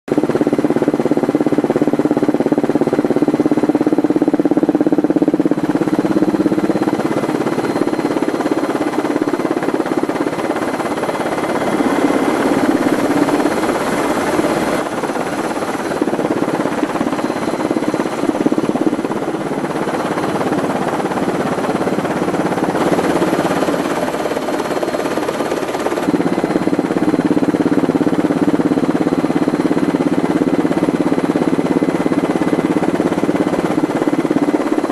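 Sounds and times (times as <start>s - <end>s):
aircraft engine drone: 0.1s - 34.9s.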